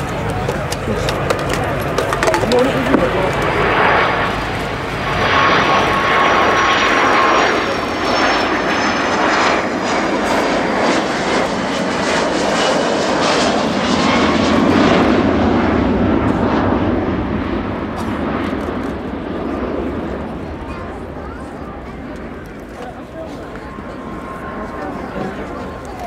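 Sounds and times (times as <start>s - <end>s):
jet engines passing overhead: 0.0s - 26.0s.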